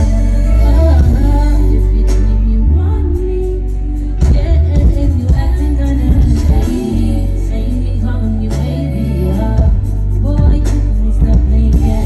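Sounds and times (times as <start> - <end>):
live r and b music: 0.0 - 12.0.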